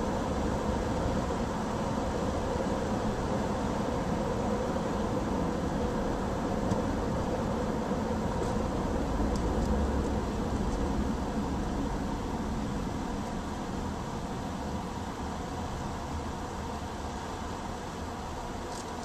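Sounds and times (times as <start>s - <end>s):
tyres rumbling on road: 0.0s - 17.6s.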